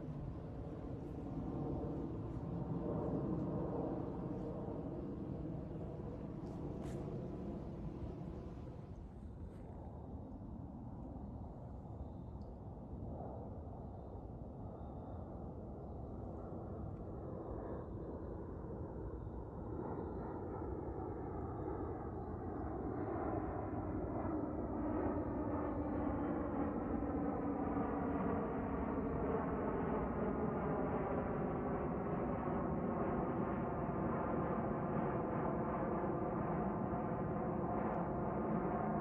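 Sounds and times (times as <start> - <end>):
jet engines rumbling overhead: 0.0 - 39.0.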